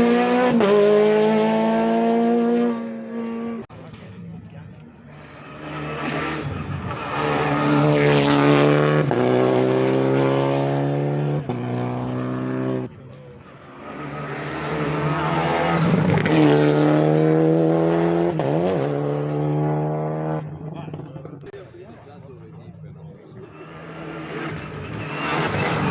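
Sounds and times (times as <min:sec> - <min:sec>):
rally car engine at full throttle: 0:00.0 - 0:25.9.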